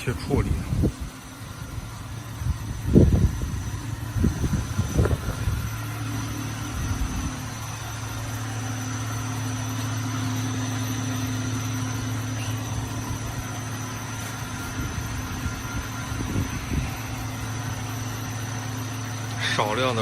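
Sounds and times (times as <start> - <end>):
furnace machinery motor hum: 0.0 - 20.0
fainter higher tone: 1.4 - 19.8.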